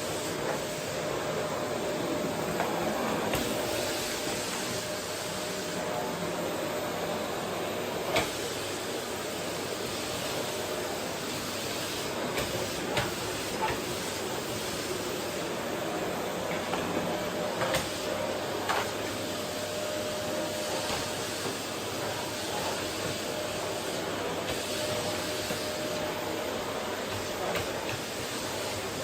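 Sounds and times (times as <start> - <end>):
vacuum cleaner running: 0.0 - 29.0.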